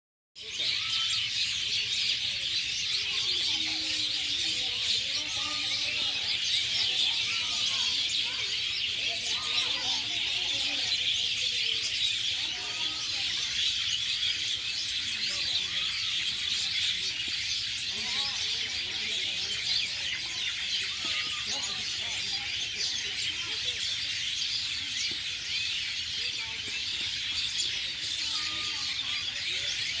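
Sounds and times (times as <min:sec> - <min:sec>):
small birds chirping: 0:00.4 - 0:30.0.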